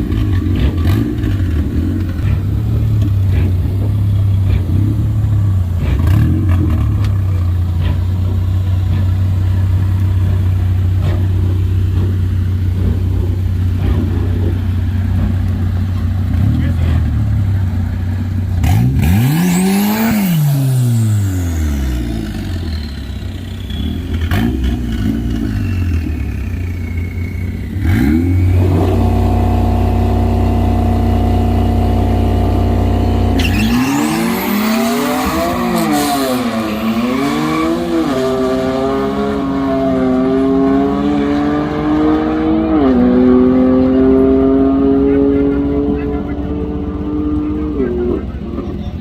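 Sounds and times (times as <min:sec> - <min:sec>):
race car engines passing: 0:00.0 - 0:49.0.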